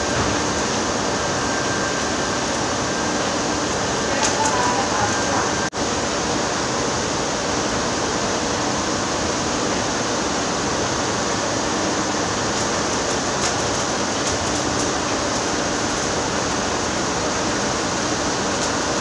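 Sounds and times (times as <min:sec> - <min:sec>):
arc welding hiss and crackle: 0:00.0 - 0:05.7, 0:08.8 - 0:19.0.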